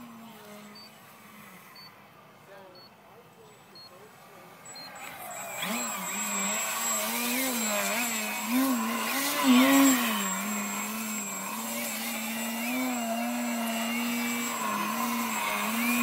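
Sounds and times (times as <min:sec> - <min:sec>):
model plane electric motor whine: 0:00.0 - 0:01.8, 0:04.5 - 0:16.0.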